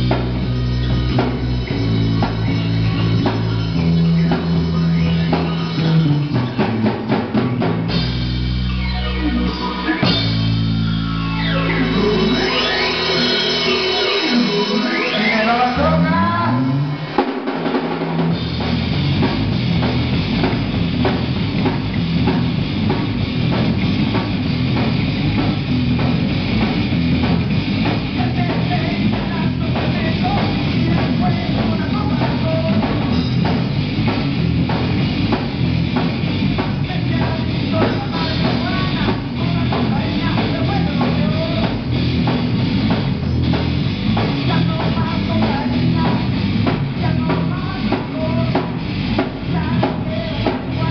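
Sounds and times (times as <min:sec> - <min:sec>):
drum kit beat: 0:00.0 - 0:50.9
live rock band playing: 0:00.0 - 0:50.9.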